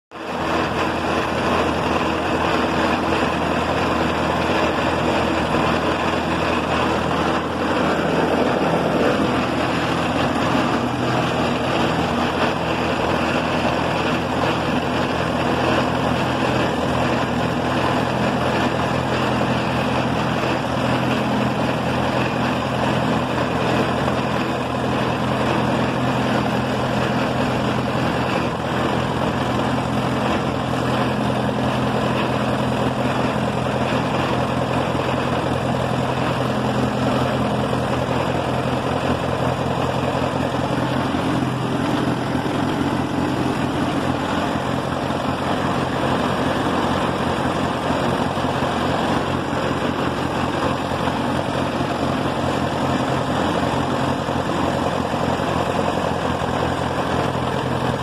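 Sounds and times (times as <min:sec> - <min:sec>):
tractor engine running: 0:00.1 - 0:58.0.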